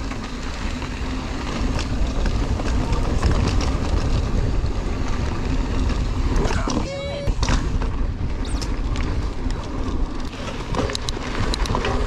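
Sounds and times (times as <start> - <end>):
bike clicks and rattles: 0.0 - 12.0
wind rushing over microphone: 0.0 - 12.0.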